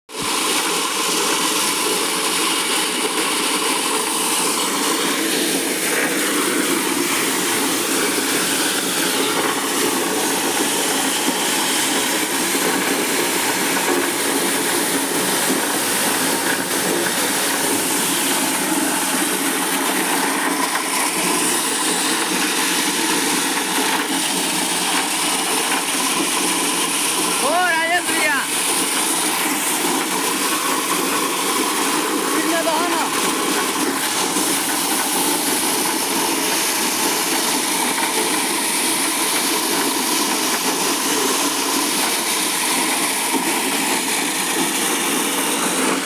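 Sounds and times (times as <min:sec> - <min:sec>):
maize sheller machine running: 0:00.1 - 0:46.0.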